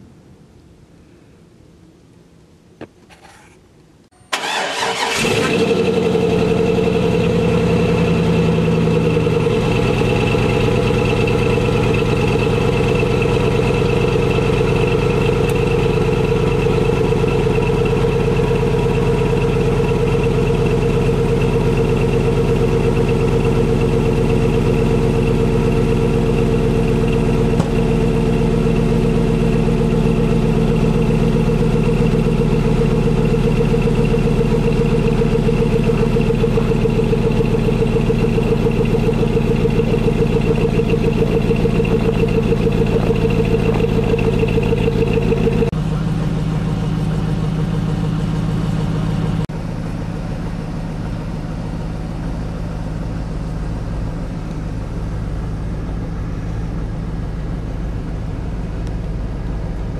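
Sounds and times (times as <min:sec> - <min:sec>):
car engine idling: 0:04.2 - 0:59.9.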